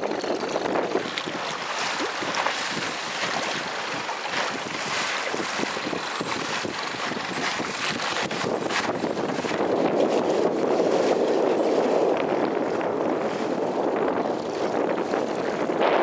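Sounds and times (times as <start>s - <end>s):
water splashing: 0.0s - 16.0s
wind buffeting microphone: 0.0s - 16.0s.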